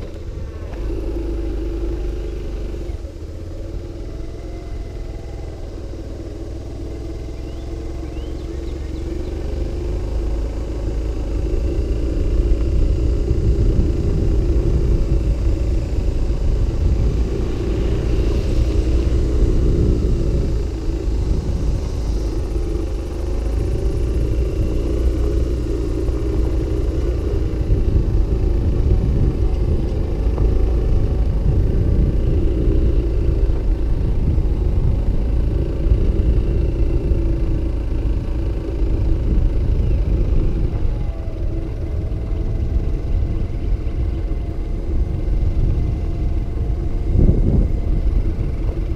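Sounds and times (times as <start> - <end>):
engine and road noise rumble: 0.0 - 48.9.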